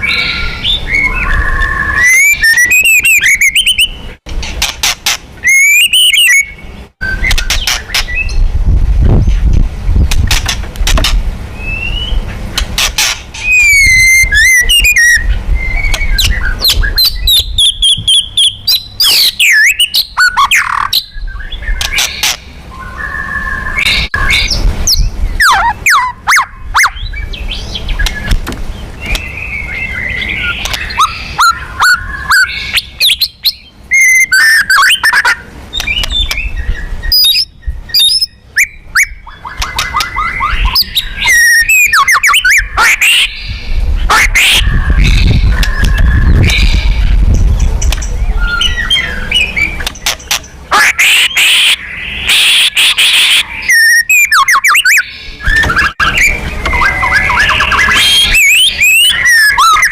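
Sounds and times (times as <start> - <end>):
bird singing varied song: 0.0 - 4.2, 5.4 - 9.4, 11.5 - 12.7, 13.4 - 59.9.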